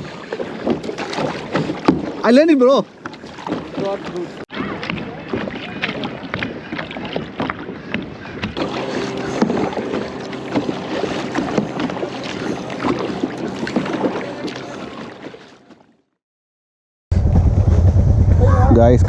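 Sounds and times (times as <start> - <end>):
paddle splashing water: 0.0 - 16.1.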